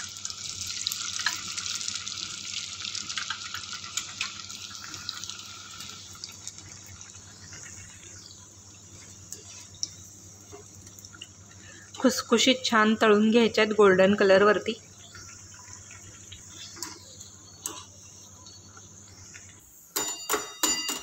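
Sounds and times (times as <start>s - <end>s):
food frying in hot oil: 0.0s - 19.9s.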